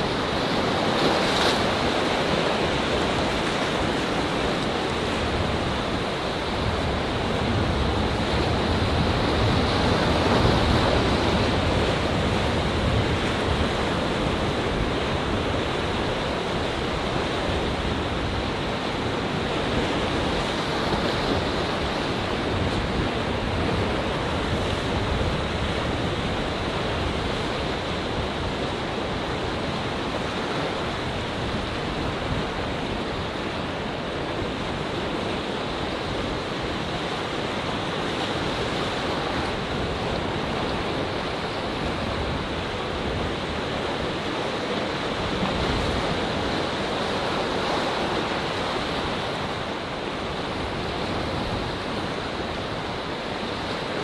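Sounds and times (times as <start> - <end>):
waves washing among rocks: 0.0 - 54.0.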